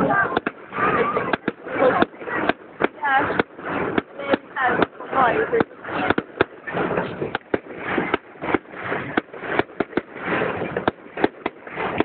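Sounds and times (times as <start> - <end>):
crackling hiss: 0.0 - 12.0
fireworks bangs: 0.0 - 12.0.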